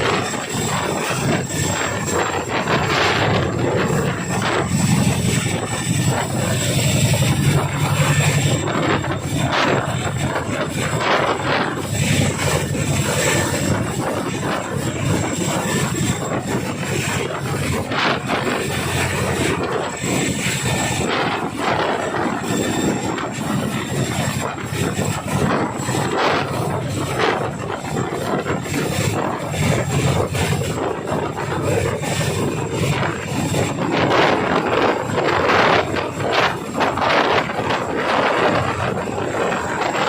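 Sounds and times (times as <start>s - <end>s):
helicopter rotor beating: 0.0s - 40.0s
high steady whine: 0.0s - 40.0s.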